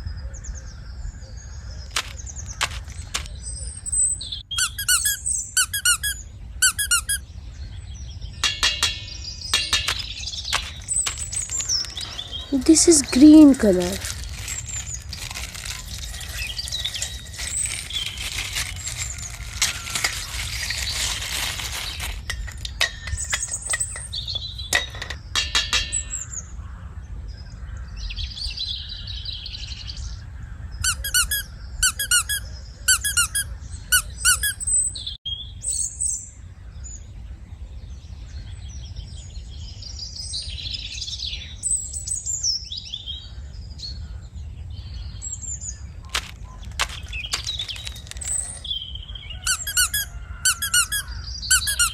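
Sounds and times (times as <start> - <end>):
small birds chirping: 0.0 - 37.1, 37.8 - 51.9.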